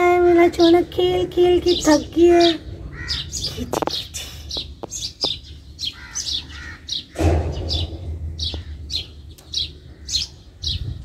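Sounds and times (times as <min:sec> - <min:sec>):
low rumble: 0:00.0 - 0:11.0
small birds chirping: 0:00.0 - 0:11.0.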